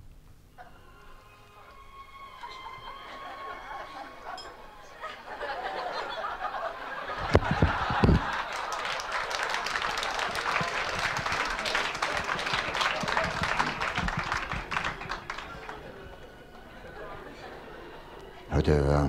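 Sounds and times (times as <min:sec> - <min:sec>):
audience applauding: 0:00.6 - 0:18.7
audience laughter: 0:02.3 - 0:19.0.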